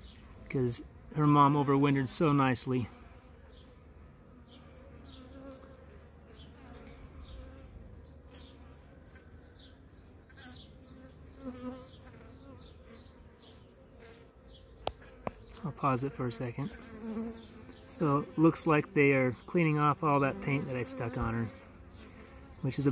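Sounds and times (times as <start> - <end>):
honeybees buzzing: 0.0 - 22.9.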